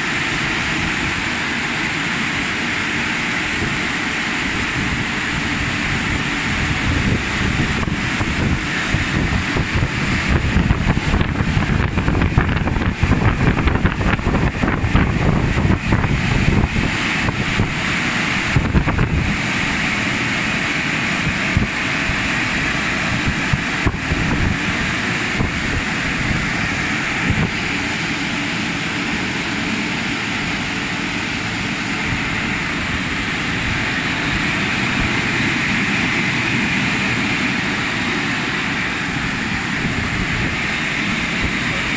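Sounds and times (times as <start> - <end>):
drying blowers rushing air: 0.0 - 41.9.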